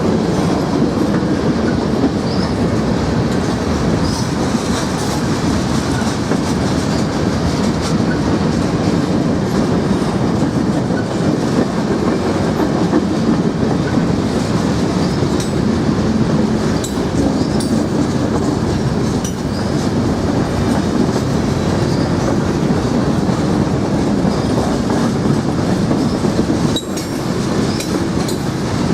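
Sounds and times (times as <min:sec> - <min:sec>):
railcars rumbling: 0:00.0 - 0:28.9
train wheels clacking: 0:00.0 - 0:28.9.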